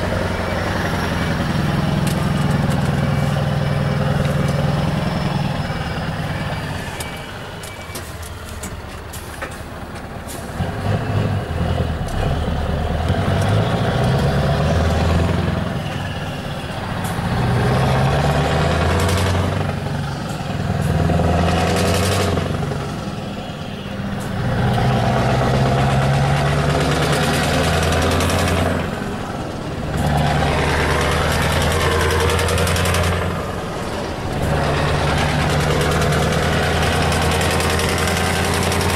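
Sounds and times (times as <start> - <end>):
truck engine revving through gears: 0.0 - 38.9.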